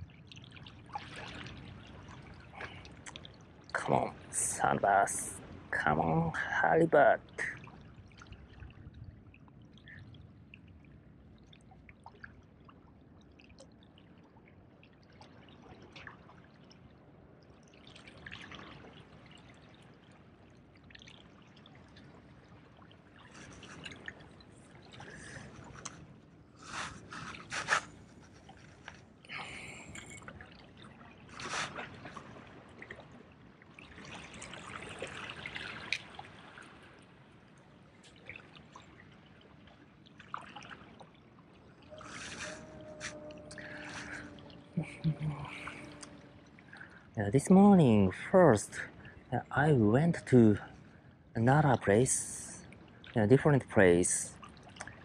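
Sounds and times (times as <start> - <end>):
small waves lapping against rocks: 0.0 - 51.2
water splashes: 0.0 - 55.0.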